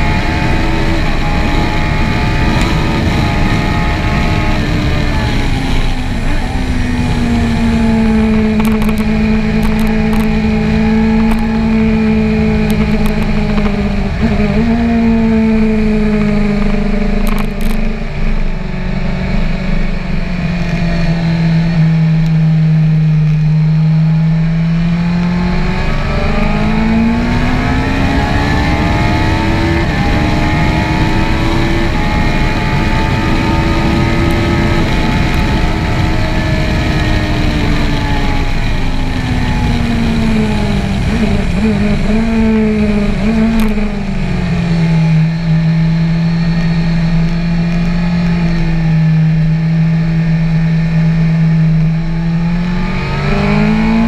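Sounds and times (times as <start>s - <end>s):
wind rushing past microphone: 0.0s - 23.0s, 24.2s - 54.0s
motorcycle engine at speed: 0.0s - 54.0s.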